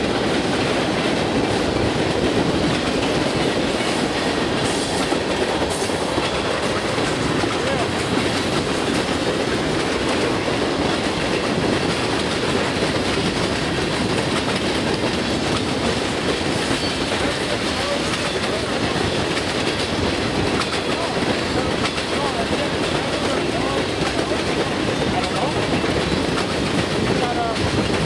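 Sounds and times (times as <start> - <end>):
train wheels clattering over rails: 0.0 - 28.0.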